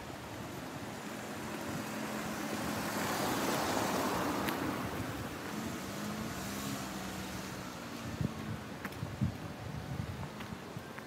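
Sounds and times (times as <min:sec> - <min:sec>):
vehicle road noise: 0:00.0 - 0:11.0.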